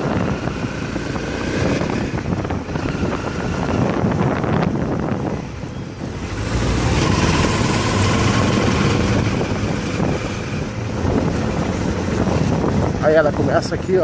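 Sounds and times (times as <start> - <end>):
motorcycle engine running: 0.0 - 13.7
wind rushing over microphone: 0.0 - 14.0.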